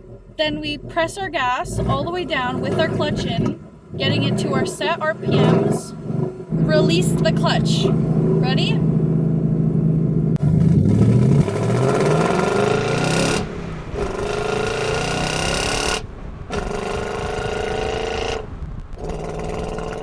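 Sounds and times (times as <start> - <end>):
car engine revving under full throttle: 0.0 - 20.0.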